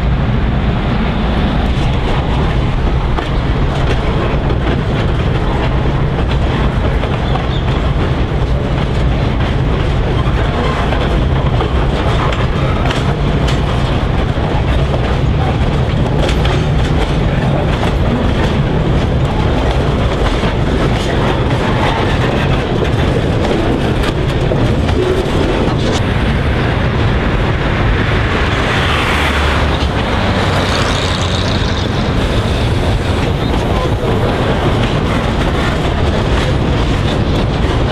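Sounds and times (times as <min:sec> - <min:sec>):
train engine drone: 0:00.0 - 0:37.9
wheels clicking over rail joints: 0:01.5 - 0:26.1, 0:29.7 - 0:37.9.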